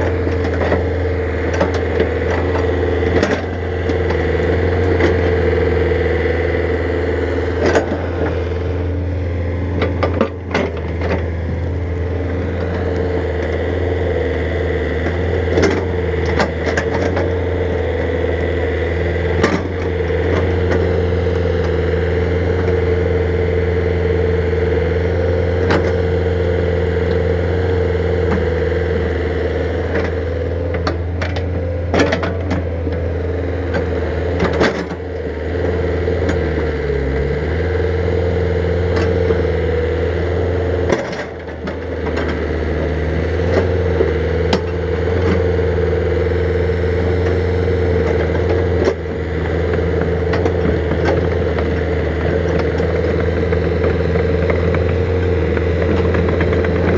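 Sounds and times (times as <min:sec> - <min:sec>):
excavator diesel engine running: 0:00.0 - 0:56.9
steady whine: 0:00.0 - 0:56.9.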